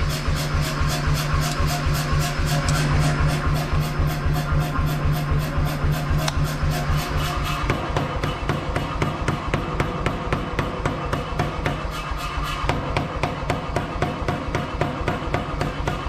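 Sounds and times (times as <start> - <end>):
power hammer striking hot steel: 0.0 - 12.0, 12.7 - 16.0.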